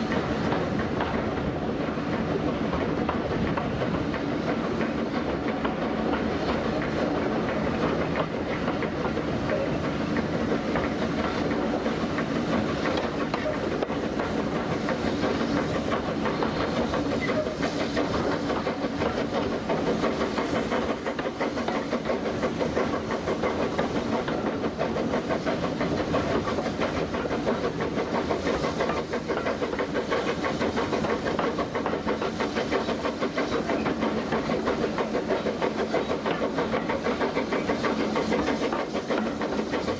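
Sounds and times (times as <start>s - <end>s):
steam locomotive hiss and exhaust: 0.0s - 39.9s
train wheels clattering on rails: 0.0s - 39.9s.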